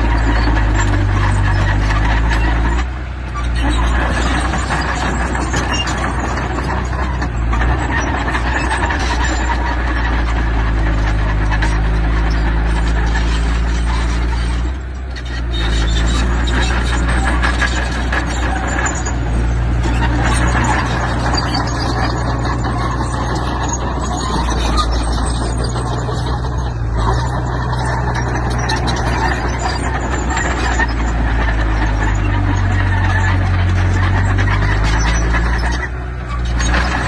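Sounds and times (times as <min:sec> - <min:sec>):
diesel machinery engine running: 0:00.0 - 0:37.0
rattling and clatter: 0:00.0 - 0:37.0.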